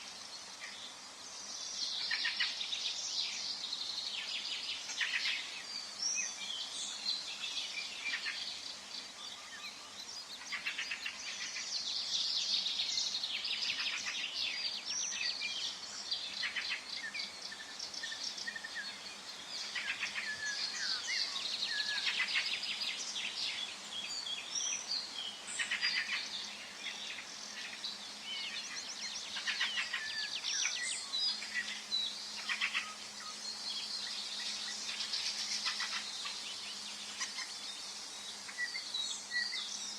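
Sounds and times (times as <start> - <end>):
birds chirping and trilling: 0.0 - 39.9
faint steady background noise: 0.0 - 39.9.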